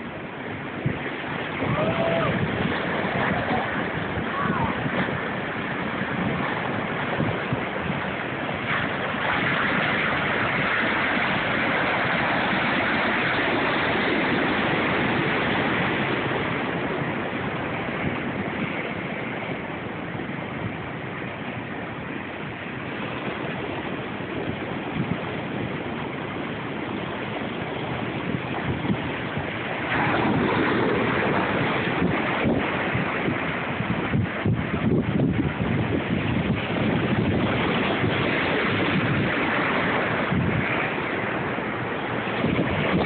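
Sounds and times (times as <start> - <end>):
ocean surf breaking: 0.0 - 43.0.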